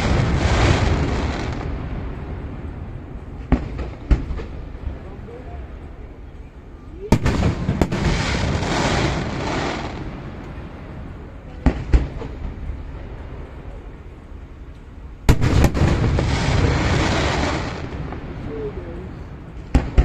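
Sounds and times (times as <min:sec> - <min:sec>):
fireworks bangs: 0:00.0 - 0:05.2, 0:07.1 - 0:13.8, 0:15.2 - 0:20.0
rumbling crackle: 0:00.0 - 0:06.0, 0:07.1 - 0:20.0.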